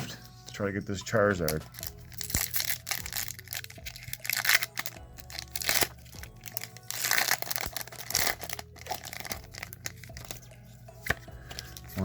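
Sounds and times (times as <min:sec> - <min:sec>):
foil wrapper tearing and crinkling: 0:01.5 - 0:12.0.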